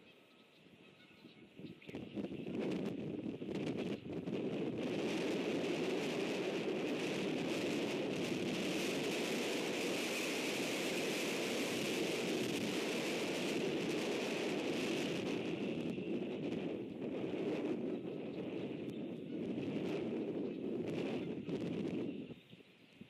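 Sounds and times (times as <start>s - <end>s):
heavy wind blowing: 0.0s - 23.0s.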